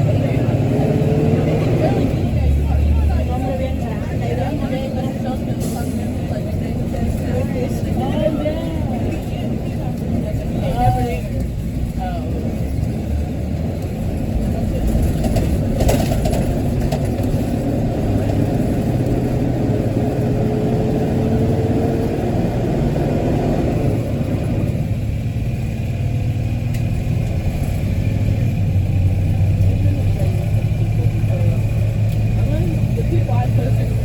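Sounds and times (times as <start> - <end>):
bus engine and fan drone: 0.0 - 34.0.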